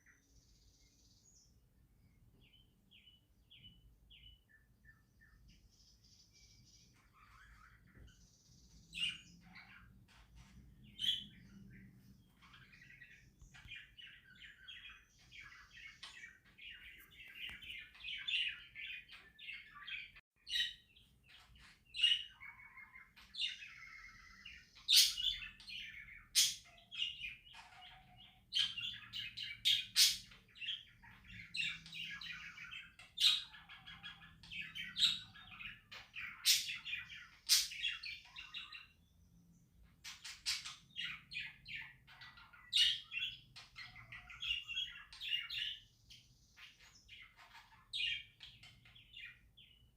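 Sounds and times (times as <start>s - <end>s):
budgerigars chattering and warbling: 6.6s - 39.1s, 39.8s - 49.9s.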